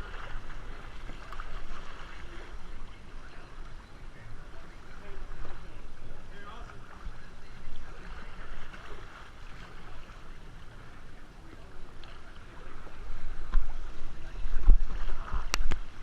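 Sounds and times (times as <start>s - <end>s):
kayak paddles splashing: 0.0s - 16.0s
water sloshing: 0.0s - 16.0s.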